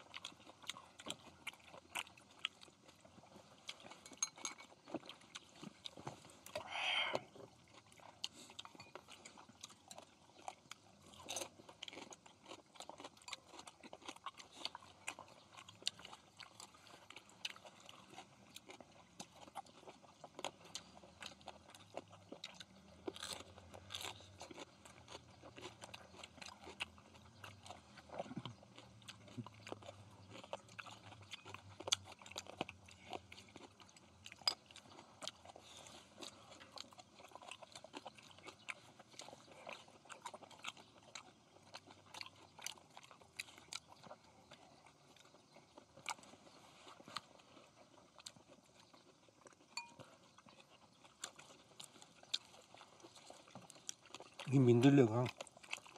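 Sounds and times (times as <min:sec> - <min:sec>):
people chewing and crunching food: 0:00.0 - 0:55.9.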